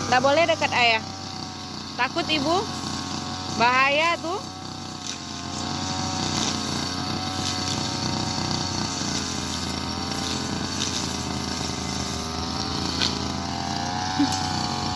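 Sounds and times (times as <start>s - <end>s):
brush cutter engine running: 0.0s - 14.9s.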